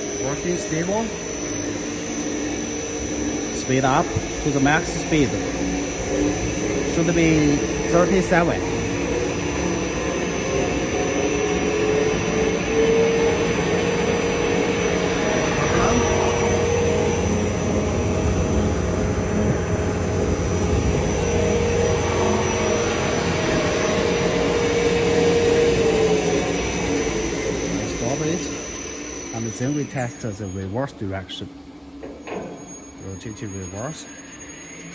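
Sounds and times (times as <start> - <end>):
mixer motor drone: 0.0 - 34.9
steady whine: 0.0 - 34.9.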